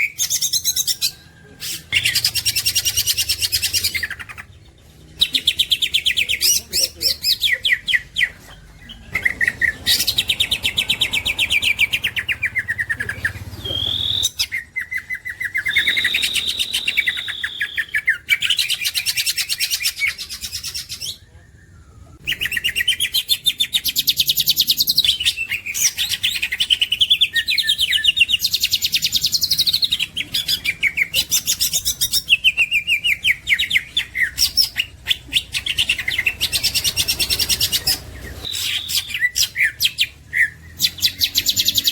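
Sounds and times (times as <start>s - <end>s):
bird singing chattering phrases: 0.0s - 21.5s, 22.2s - 41.9s.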